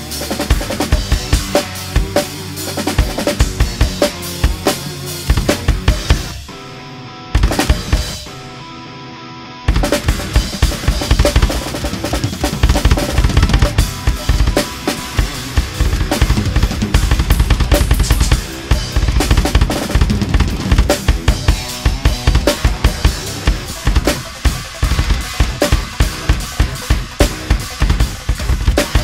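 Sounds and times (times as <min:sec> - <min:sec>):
fast metal drumming: 0:00.0 - 0:06.5, 0:07.4 - 0:08.3, 0:09.7 - 0:29.0.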